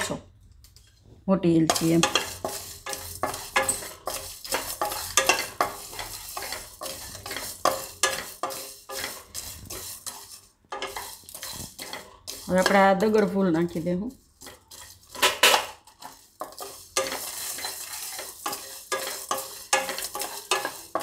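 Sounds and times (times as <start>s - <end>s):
seeds rattling against pan: 1.7s - 21.0s
spatula scraping a pan: 1.7s - 21.0s.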